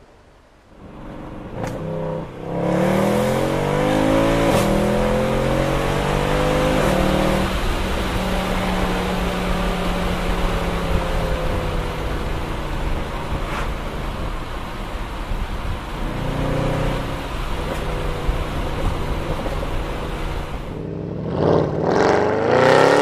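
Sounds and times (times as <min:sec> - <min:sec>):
car engine accelerating hard: 0:00.7 - 0:23.0.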